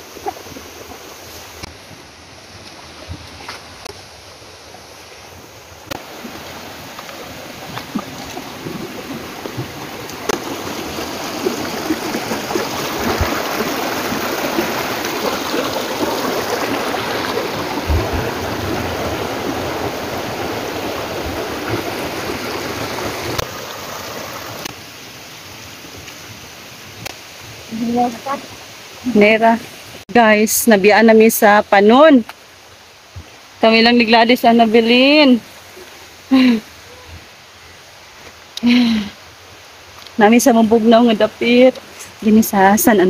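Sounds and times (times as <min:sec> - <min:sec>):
stream gurgling over rocks: 0:00.0 - 0:43.0.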